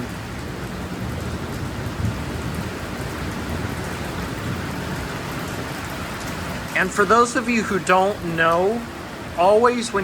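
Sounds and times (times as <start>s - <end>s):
thunder rumbling: 0.0s - 9.4s
heavy rain falling: 0.0s - 10.0s.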